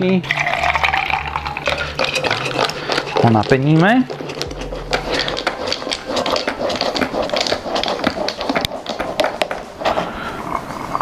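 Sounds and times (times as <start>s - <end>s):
milk and ice sloshing: 0.2s - 11.0s.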